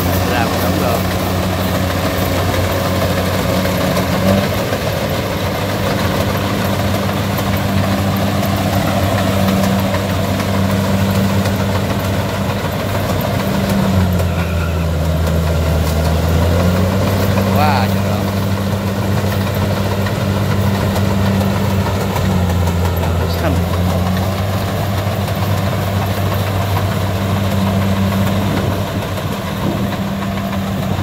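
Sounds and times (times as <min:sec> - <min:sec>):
diesel engines humming: 0:00.0 - 0:31.0
threshing machinery rattling: 0:00.0 - 0:31.0.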